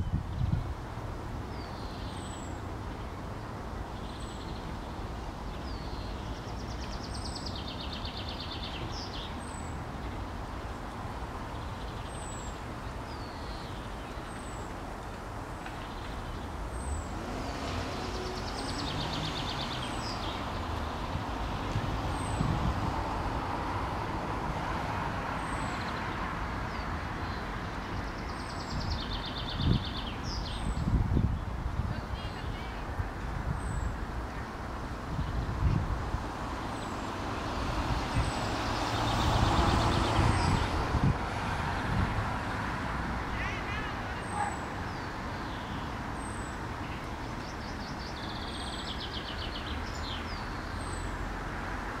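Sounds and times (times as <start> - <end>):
city traffic rumble: 0.0 - 52.0.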